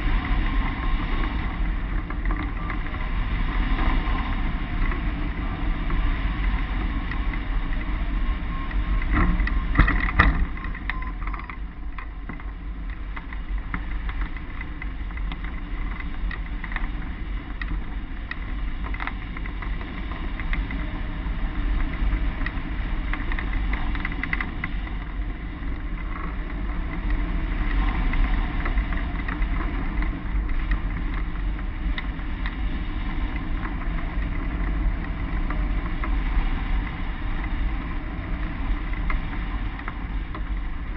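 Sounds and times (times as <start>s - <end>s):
sharp clicks and rattles: 0.0s - 40.9s
wind buffeting microphone: 0.0s - 40.9s.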